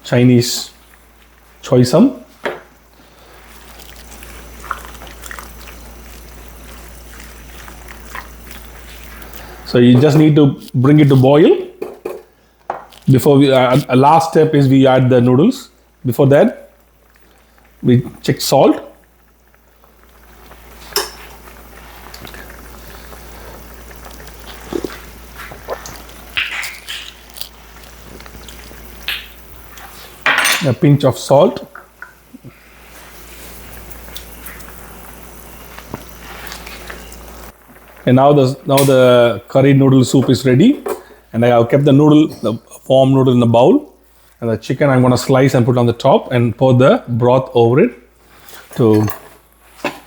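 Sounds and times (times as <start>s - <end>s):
broth simmering and bubbling: 0.0s - 50.0s.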